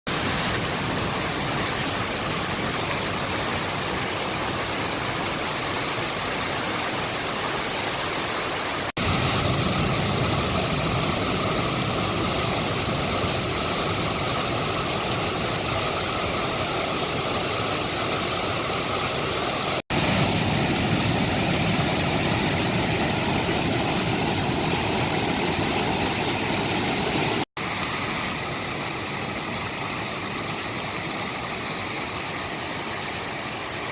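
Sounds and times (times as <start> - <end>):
mountain stream rushing: 0.1 - 33.9.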